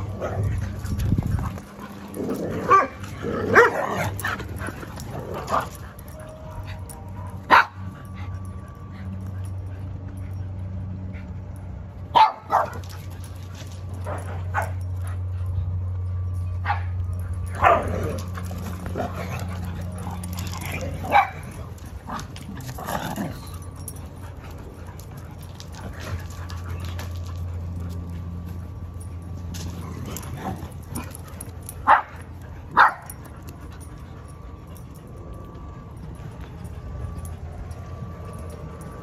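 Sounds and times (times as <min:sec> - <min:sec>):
dogs barking and yipping: 0:00.0 - 0:39.0
steady low hum: 0:00.0 - 0:39.0.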